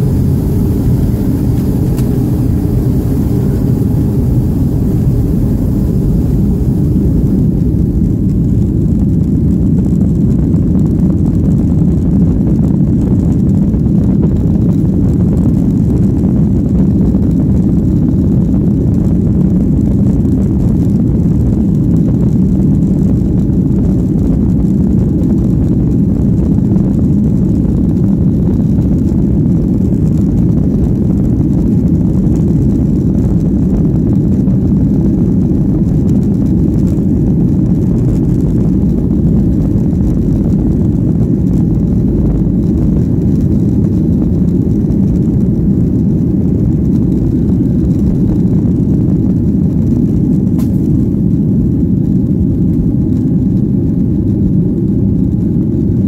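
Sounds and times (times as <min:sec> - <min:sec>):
airplane cabin rumble: 0:00.0 - 0:56.0.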